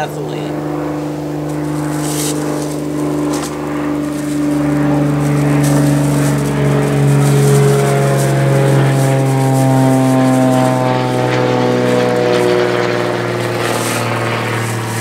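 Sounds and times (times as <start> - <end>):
propeller airplane engine drone: 0.0 - 15.0.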